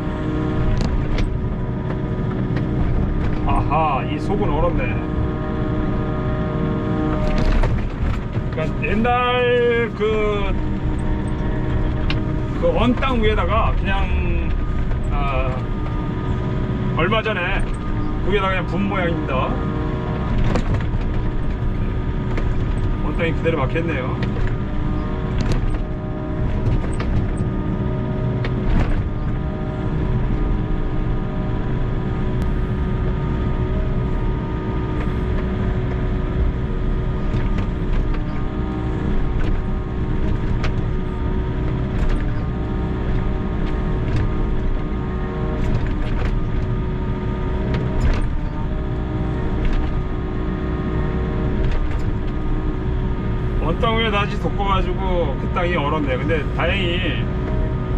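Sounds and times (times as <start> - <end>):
excavator diesel engine and hydraulics: 0.0 - 57.9.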